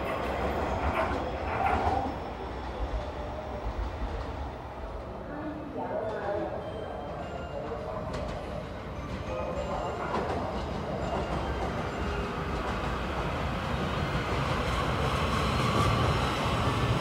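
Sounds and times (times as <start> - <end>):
electric train approaching: 0.0 - 17.0.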